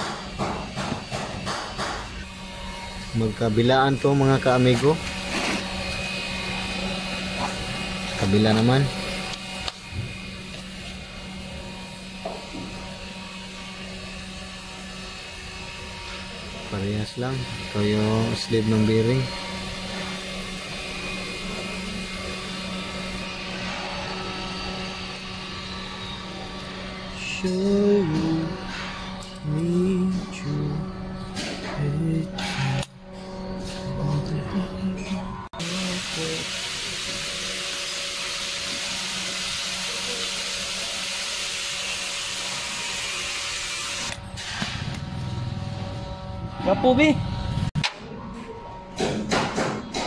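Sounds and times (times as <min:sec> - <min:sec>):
steady low machine hum: 0:00.0 - 0:50.0.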